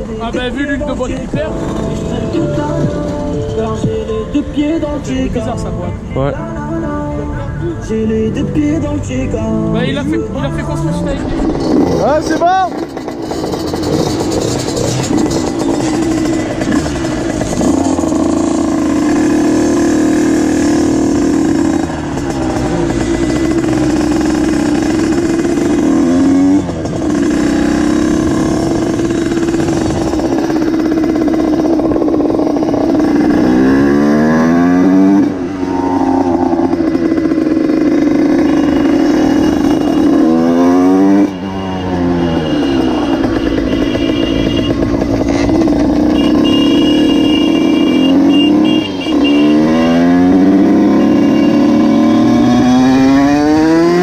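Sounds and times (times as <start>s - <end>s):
motorcycle engine revving: 0.0s - 5.5s, 8.0s - 54.0s.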